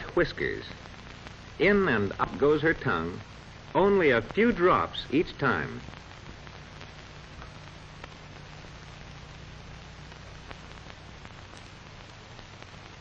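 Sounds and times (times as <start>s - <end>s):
faint crackle clicks: 0.0s - 13.0s
film soundtrack hiss: 0.0s - 13.0s.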